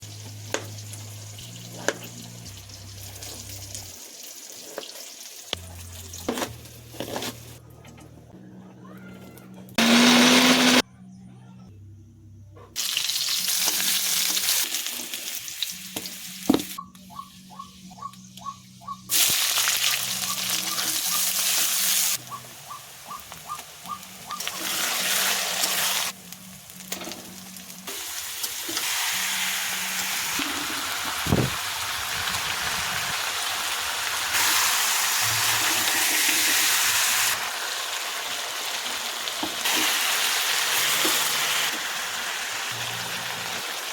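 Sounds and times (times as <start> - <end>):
food sizzling in a pan: 0.0 - 6.6, 12.8 - 16.8, 19.1 - 43.9.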